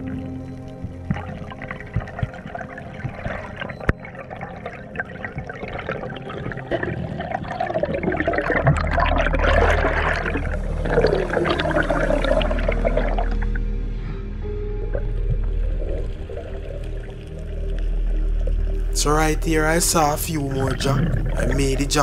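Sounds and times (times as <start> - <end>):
rushing bubbling water: 0.0 - 13.9, 14.8 - 22.0
underwater water noise: 0.0 - 22.0.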